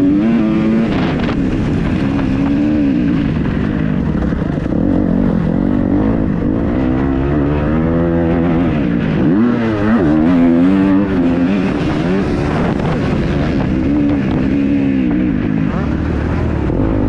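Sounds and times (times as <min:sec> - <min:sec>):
motocross engine revving: 0:00.0 - 0:17.0.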